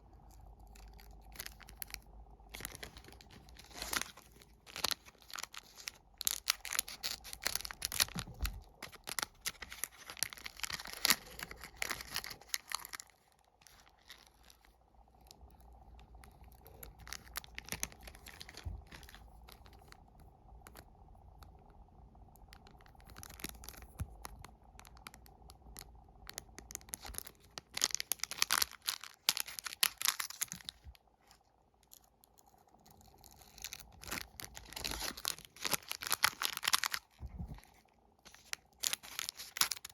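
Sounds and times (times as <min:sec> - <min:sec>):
plastic wrappers tearing and crinkling: 0:00.4 - 0:15.5, 0:16.3 - 0:20.0, 0:22.9 - 0:39.9.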